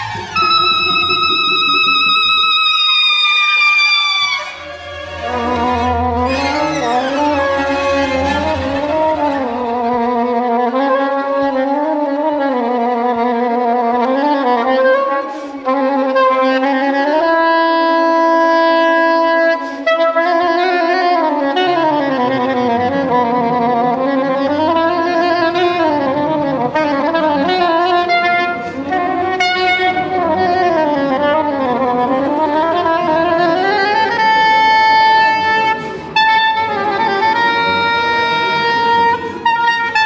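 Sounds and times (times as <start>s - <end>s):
soprano saxophone melody: 0.0s - 40.0s
string orchestra: 0.0s - 40.0s.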